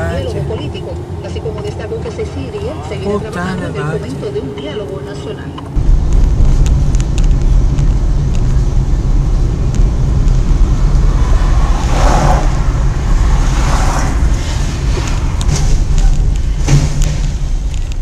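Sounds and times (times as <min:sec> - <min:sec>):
vehicle rumbling: 0:00.0 - 0:18.0.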